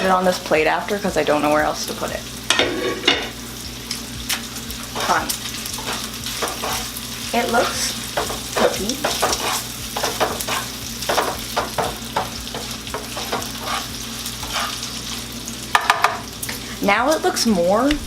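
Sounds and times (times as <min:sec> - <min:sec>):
bacon sizzling in a pan: 0:00.0 - 0:18.0.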